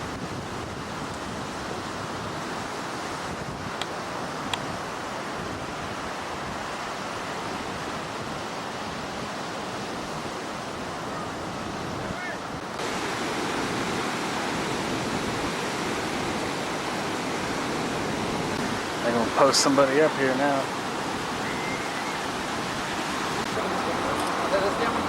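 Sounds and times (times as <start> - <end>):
storm surf rushing: 0.0 - 25.0
wind buffeting microphone: 0.0 - 25.0.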